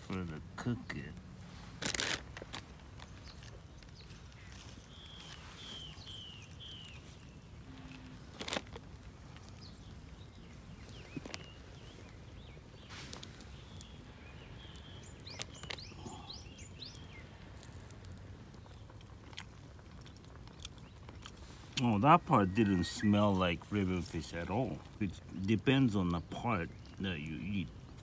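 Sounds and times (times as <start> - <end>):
clicks and crackles: 0.0 - 22.0, 23.6 - 28.0
birds chirping: 0.0 - 28.0.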